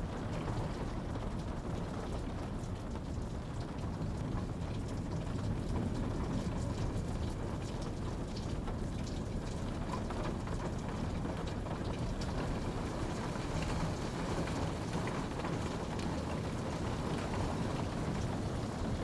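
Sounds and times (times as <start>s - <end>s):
steady rain patter: 0.0s - 19.0s.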